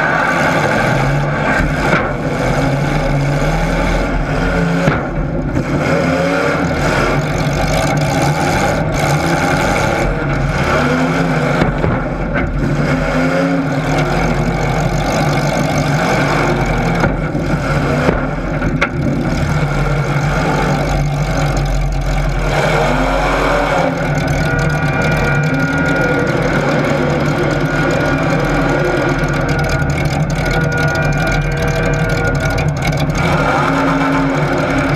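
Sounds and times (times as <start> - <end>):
racing engines revving: 0.0 - 34.9.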